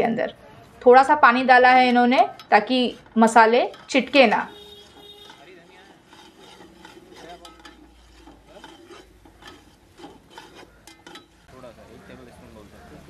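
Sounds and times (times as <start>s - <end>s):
light sizzle: 0.0s - 13.0s
metal ladle scraping a pot: 0.8s - 11.5s.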